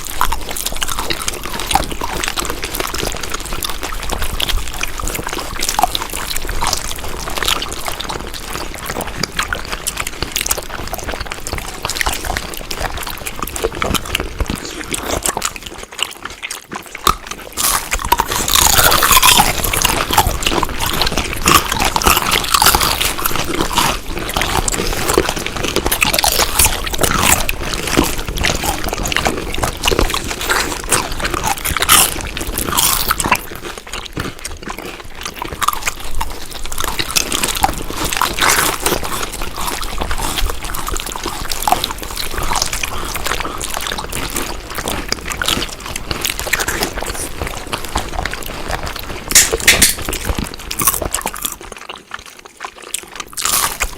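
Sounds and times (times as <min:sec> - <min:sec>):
wet chewing: 0:00.0 - 0:53.9.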